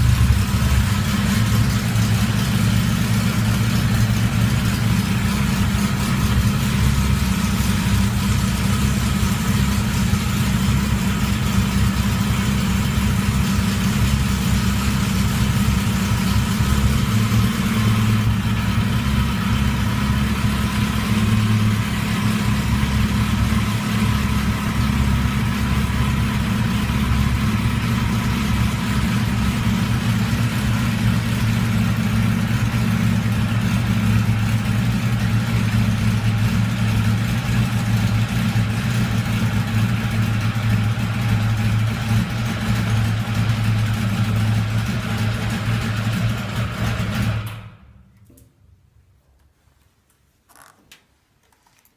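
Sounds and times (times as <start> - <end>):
motorcycle engine idling: 0.0 - 47.8.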